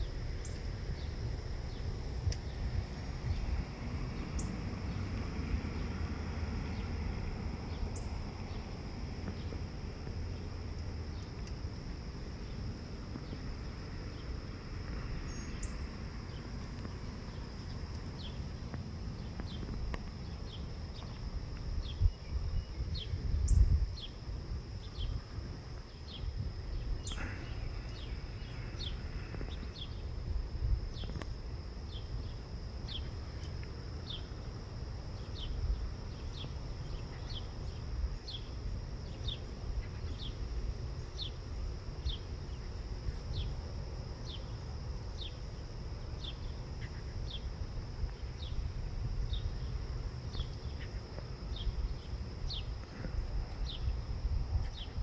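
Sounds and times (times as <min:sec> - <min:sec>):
insect chirps: 0:00.0 - 0:55.0
insects trilling: 0:00.0 - 0:55.0
low rumble on microphone: 0:00.0 - 0:55.0.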